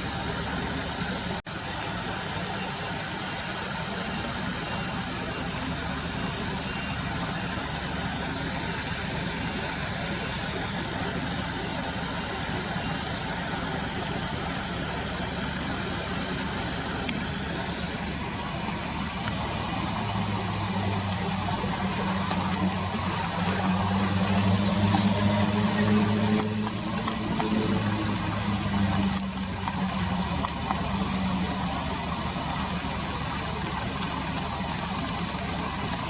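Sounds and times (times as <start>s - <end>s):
car engine idling: 0.0s - 36.0s
noisy background: 0.0s - 36.0s.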